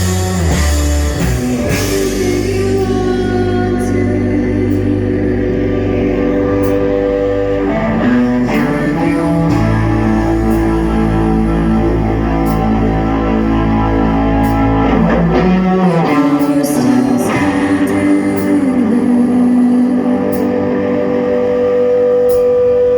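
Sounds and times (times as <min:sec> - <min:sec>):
bass line: 0:00.0 - 0:22.9
guitar chords: 0:00.0 - 0:22.9
rock band playing: 0:00.0 - 0:22.9.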